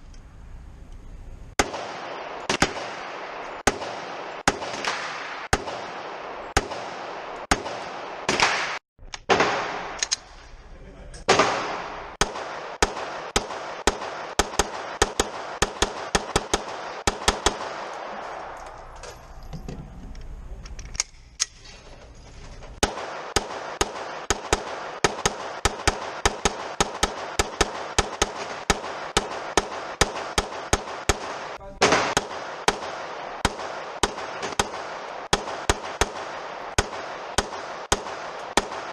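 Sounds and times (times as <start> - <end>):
gunshots: 1.5 - 10.6, 11.2 - 19.0, 22.8 - 38.9.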